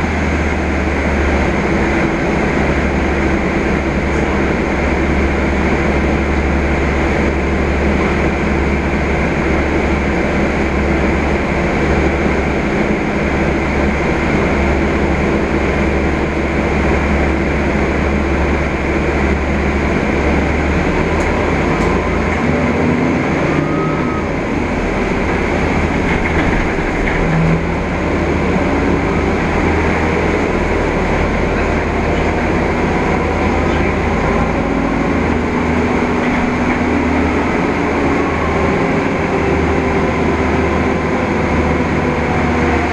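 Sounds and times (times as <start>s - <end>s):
bus engine drone: 0.0s - 42.9s
road and cabin rattle: 0.0s - 42.9s.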